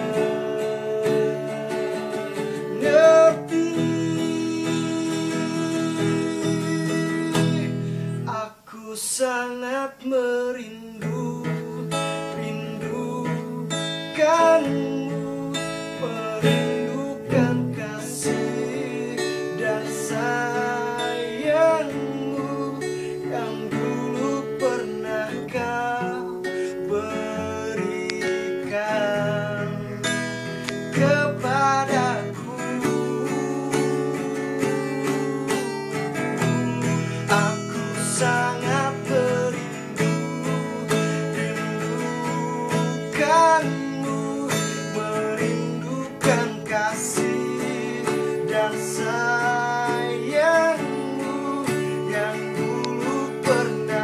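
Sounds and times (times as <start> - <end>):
acoustic guitar strumming: 0.0 - 54.0
man singing: 0.0 - 54.0.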